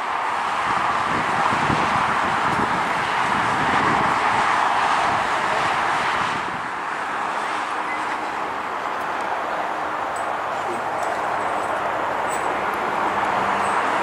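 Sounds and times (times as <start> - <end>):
jet engines at takeoff thrust: 0.0 - 14.0.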